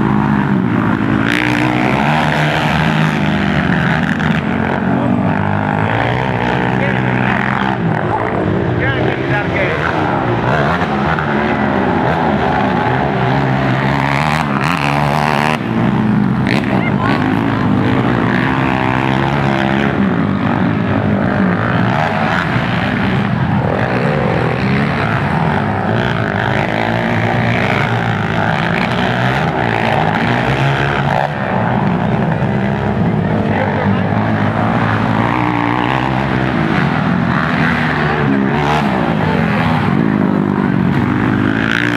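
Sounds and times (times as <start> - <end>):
quad engines revving: 0.0 - 41.9.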